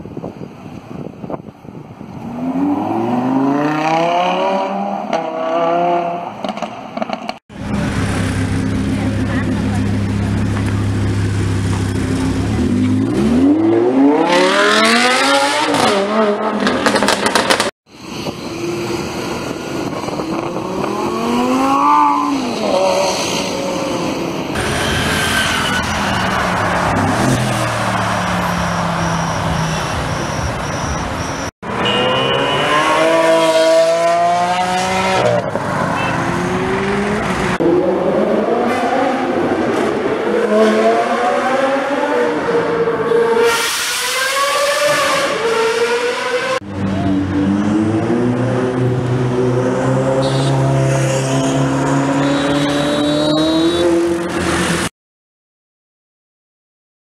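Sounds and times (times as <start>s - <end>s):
car engines revving and passing: 2.2s - 54.9s.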